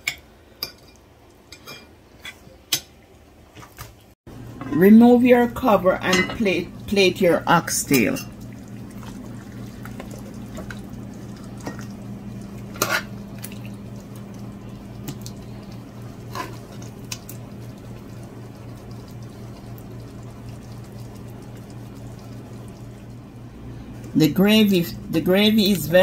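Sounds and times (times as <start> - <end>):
steady low hum: 4.3 - 26.0.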